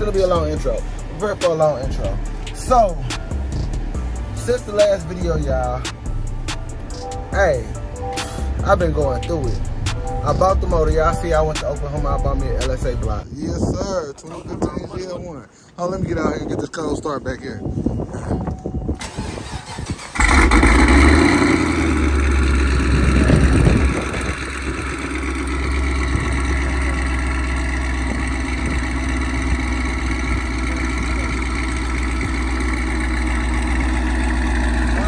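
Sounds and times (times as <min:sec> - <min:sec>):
car engine starting and idling: 0:00.0 - 0:13.2, 0:19.0 - 0:35.0.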